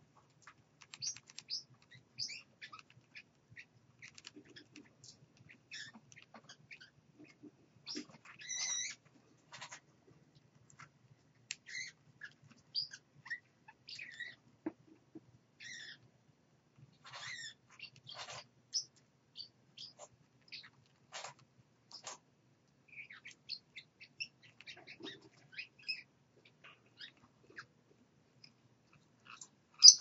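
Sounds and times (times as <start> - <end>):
parrots chirping and squeaking: 0.4 - 9.9, 11.5 - 14.4, 15.6 - 16.1, 16.9 - 22.2, 22.9 - 27.7, 28.4 - 30.0.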